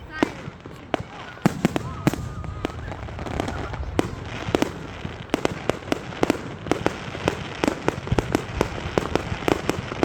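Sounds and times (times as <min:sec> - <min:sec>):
fireworks bangs and cracks: 0:00.0 - 0:10.0.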